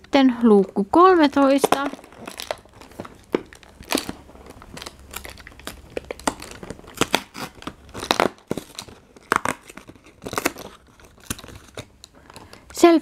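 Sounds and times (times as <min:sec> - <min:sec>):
cardboard tearing and crinkling: 0:01.2 - 0:12.5.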